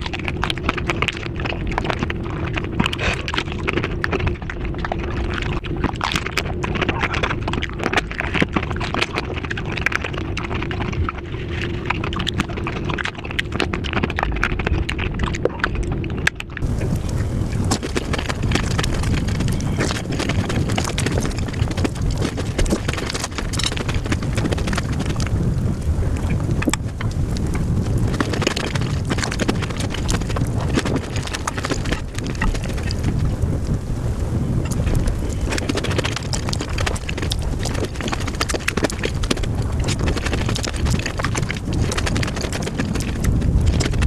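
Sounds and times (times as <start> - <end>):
crunching and chewing crisp food: 0.0 - 44.0.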